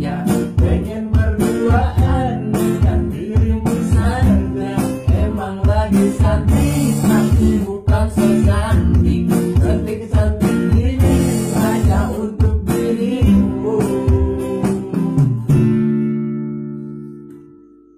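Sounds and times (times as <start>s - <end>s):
person singing: 0.0s - 15.6s
drums: 0.0s - 15.8s
acoustic guitar strumming: 0.0s - 17.9s.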